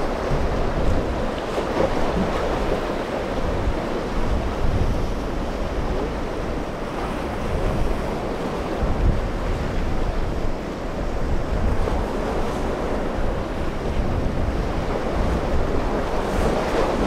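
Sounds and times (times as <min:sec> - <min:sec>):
wind gusting on microphone: 0:00.0 - 0:17.0.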